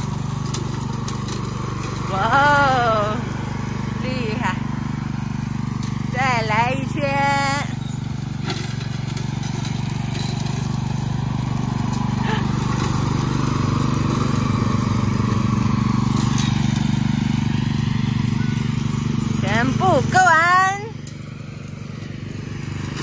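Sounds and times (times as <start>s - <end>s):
riding lawn mower running: 0.0s - 23.0s.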